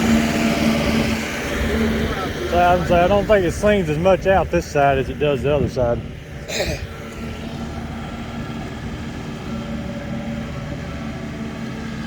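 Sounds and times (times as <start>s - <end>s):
straw blower engine running: 0.0s - 12.0s.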